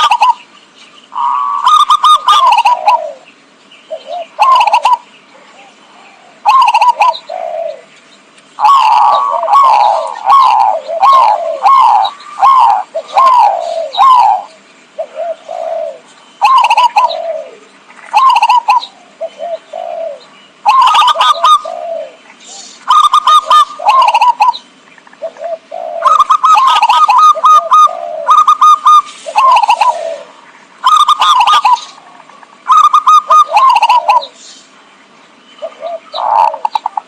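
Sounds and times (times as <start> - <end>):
dove cooing: 0.0 - 0.5, 1.1 - 7.9, 8.6 - 34.4, 35.6 - 37.0.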